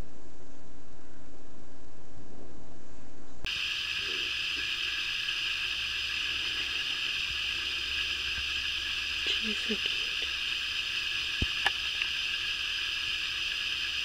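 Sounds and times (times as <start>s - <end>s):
steady hissing noise: 0.0s - 14.0s.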